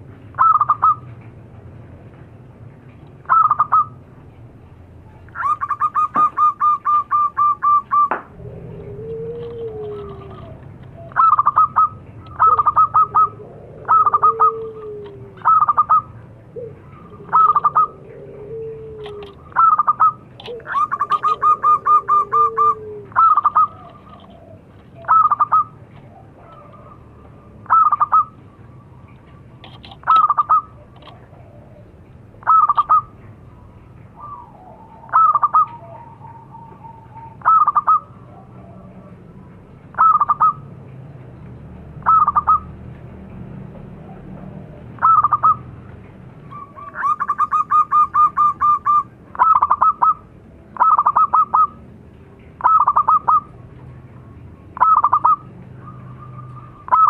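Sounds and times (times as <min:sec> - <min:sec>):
dove cooing: 0:00.0 - 0:01.2, 0:03.2 - 0:04.0, 0:05.0 - 0:40.8, 0:42.0 - 0:42.8, 0:43.8 - 0:51.9, 0:52.6 - 0:53.6, 0:54.8 - 0:57.0
dove trill: 0:00.0 - 0:01.3, 0:02.9 - 0:40.9, 0:41.8 - 0:42.8, 0:43.8 - 0:52.0, 0:52.6 - 0:57.0
low drawn-out bird notes: 0:02.6 - 0:31.0, 0:31.6 - 0:43.4, 0:44.0 - 0:57.0.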